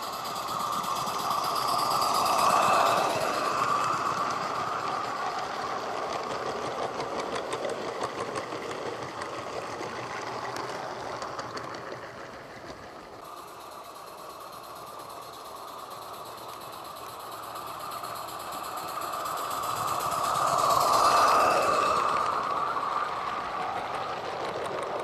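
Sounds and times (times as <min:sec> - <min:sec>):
model steam locomotive passing: 0:00.0 - 0:25.0
wheels clicking over rail joints: 0:00.0 - 0:25.0.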